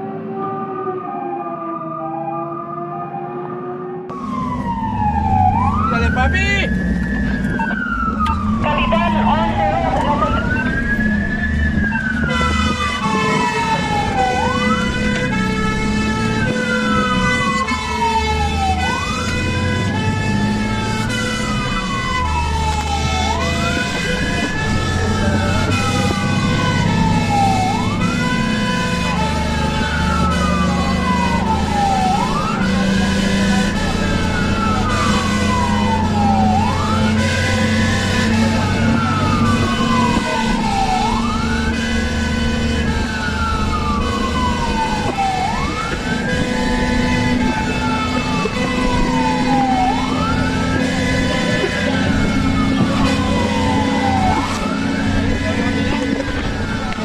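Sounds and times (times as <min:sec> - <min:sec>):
fire engine siren wailing: 0:00.0 - 0:57.0
truck engine running: 0:04.1 - 0:57.0.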